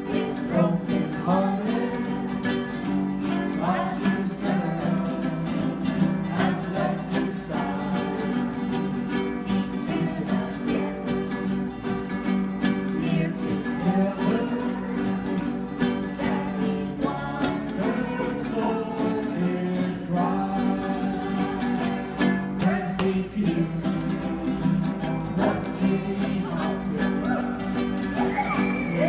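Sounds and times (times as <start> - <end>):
person singing: 0.0 - 11.7, 12.7 - 29.0
plucked guitar: 0.0 - 29.0.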